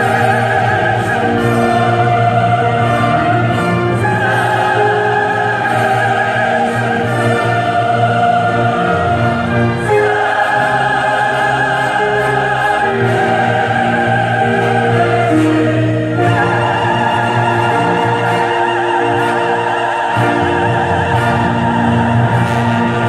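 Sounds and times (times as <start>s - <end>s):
church choir singing: 0.0s - 23.0s
instrumental accompaniment: 0.0s - 23.0s.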